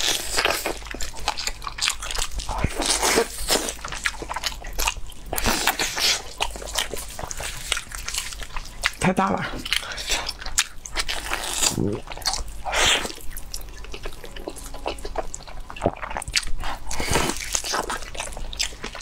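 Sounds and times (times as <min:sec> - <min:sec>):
person chewing with wet clicks: 0:00.0 - 0:19.0.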